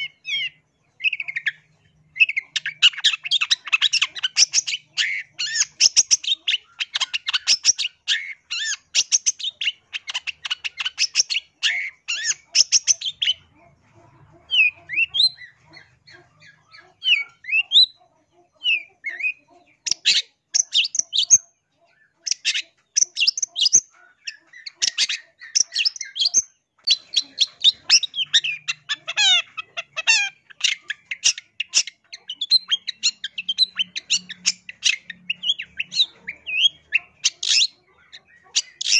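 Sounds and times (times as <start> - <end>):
bird harsh chattering song: 0.0 - 38.9.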